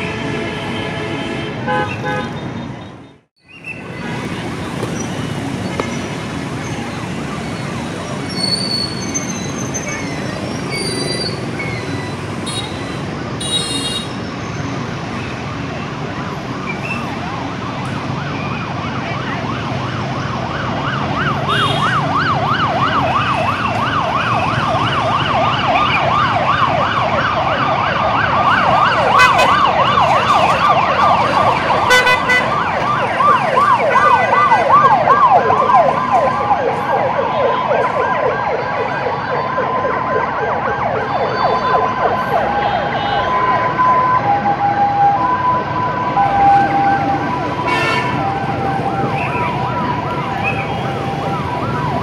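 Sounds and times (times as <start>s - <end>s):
street traffic: 0.0s - 52.0s
fire engine sirens yelping: 3.4s - 52.0s.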